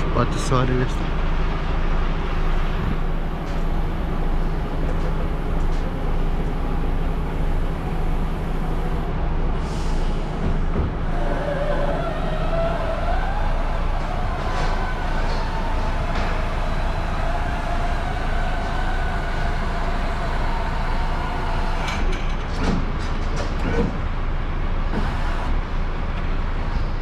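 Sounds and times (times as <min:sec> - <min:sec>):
truck diesel engine idling: 0:00.0 - 0:23.2, 0:24.0 - 0:26.7.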